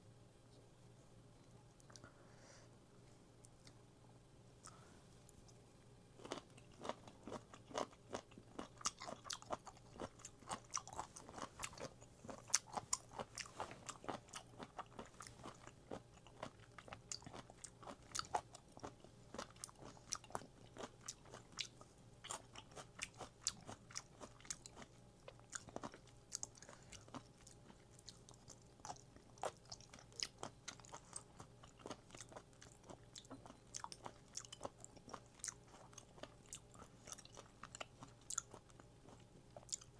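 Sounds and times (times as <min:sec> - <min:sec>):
crunchy chewing of food: 0:06.2 - 0:39.9.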